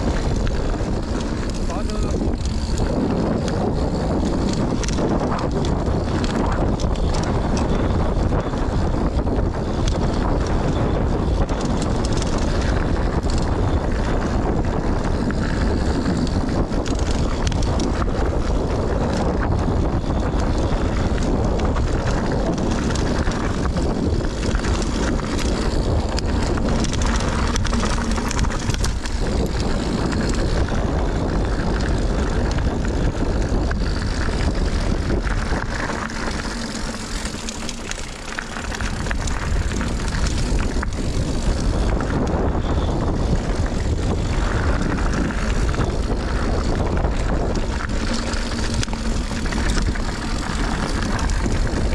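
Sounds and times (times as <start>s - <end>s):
bike frame rattling: 0.0s - 51.9s
wind rush over microphone: 0.0s - 51.9s.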